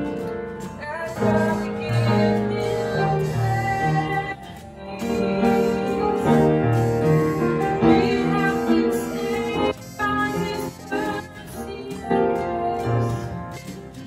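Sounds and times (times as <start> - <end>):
upright piano: 0.0 - 14.0
woman singing: 0.0 - 14.0.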